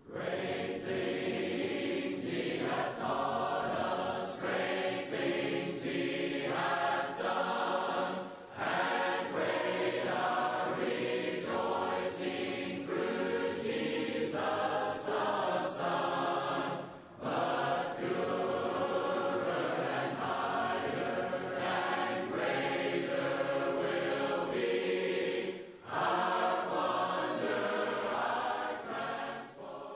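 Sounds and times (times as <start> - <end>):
choir singing: 0.0 - 29.9.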